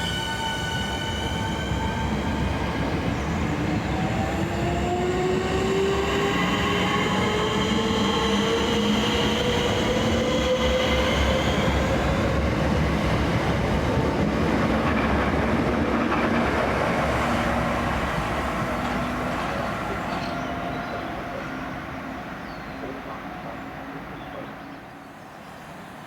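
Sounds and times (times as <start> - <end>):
train running on rails: 0.0 - 26.0.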